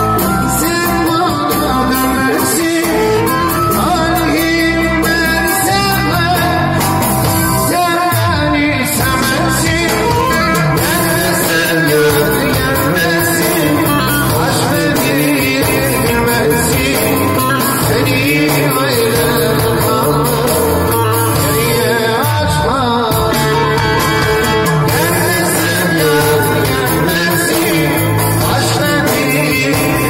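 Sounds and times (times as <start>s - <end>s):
keyboard with steady beat: 0.0s - 30.0s
man singing into a microphone: 0.0s - 30.0s.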